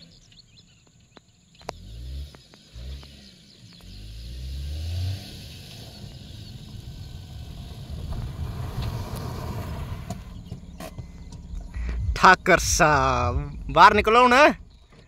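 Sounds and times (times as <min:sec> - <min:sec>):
car engine revving: 0:01.4 - 0:15.0.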